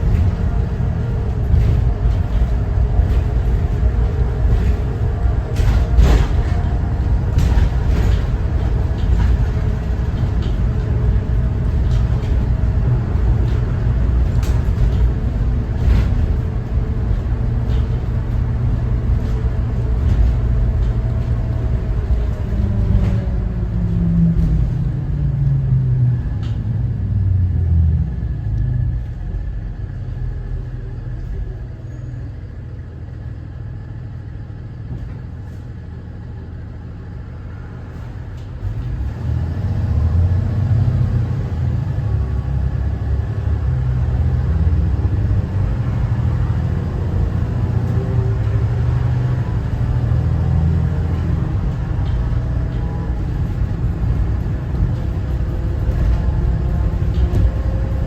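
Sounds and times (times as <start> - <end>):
bus diesel engine: 0.0 - 58.0
road rumble: 0.0 - 58.0.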